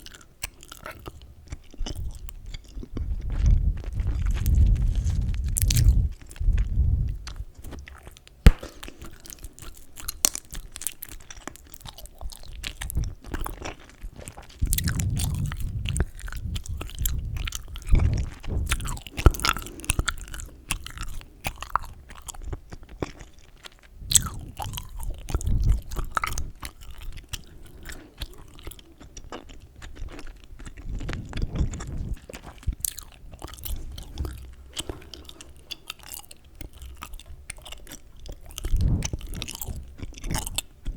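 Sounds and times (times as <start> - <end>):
gum chewing wet smacks: 0.0 - 40.9.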